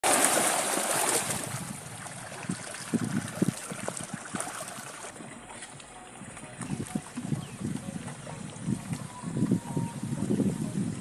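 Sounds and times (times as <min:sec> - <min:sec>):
fish splashing in water: 0:00.0 - 0:09.1
rush of water: 0:00.0 - 0:11.0.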